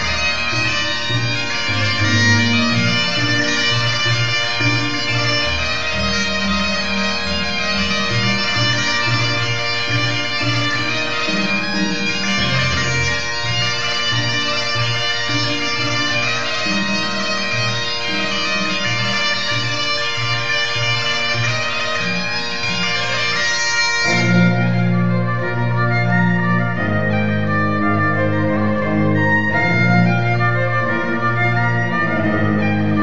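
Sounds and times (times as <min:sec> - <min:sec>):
bagpipes playing over drones: 0:00.0 - 0:33.0
cello: 0:00.0 - 0:33.0
violin: 0:00.0 - 0:33.0.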